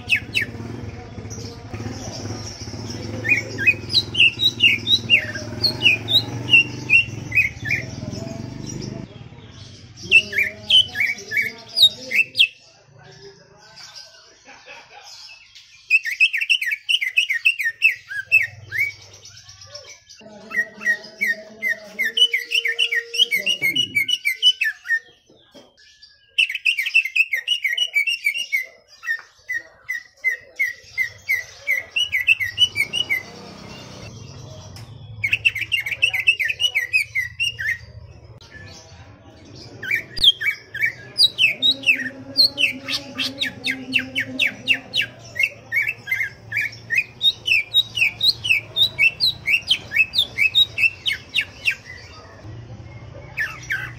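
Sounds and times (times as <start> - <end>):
bird chirping rapidly: 0.0 - 12.6, 15.6 - 25.2, 26.2 - 52.5.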